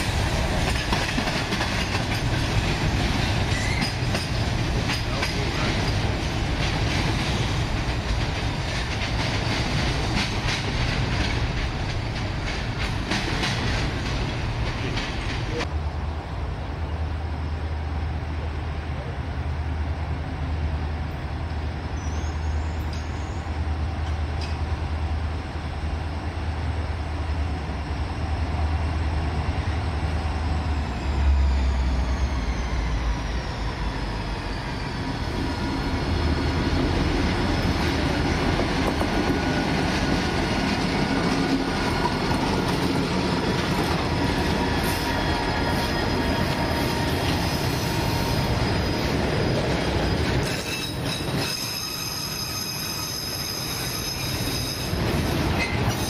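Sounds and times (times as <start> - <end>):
wheels squealing on rails: 0.0 - 15.7, 21.8 - 24.6, 29.4 - 56.0
train rumble: 0.0 - 56.0.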